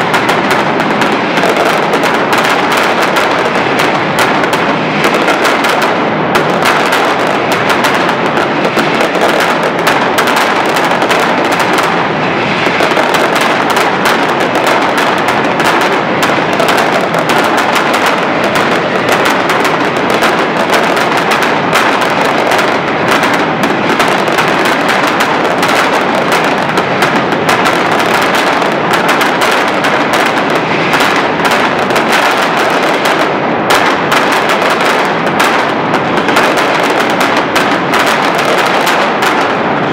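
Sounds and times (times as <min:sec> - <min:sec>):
firecracker bangs: 0:00.0 - 0:39.9.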